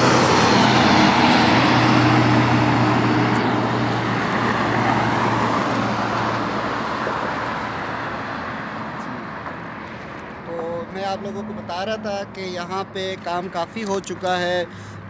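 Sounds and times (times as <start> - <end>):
truck diesel engine hum: 0.0 - 15.0.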